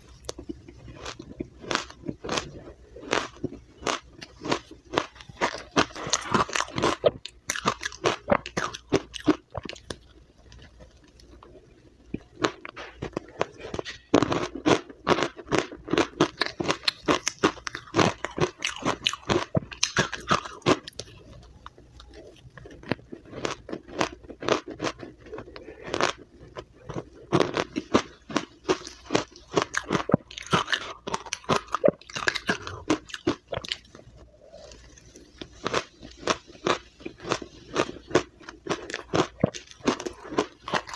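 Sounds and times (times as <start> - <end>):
crunching and chewing ice: 0.0 - 40.9.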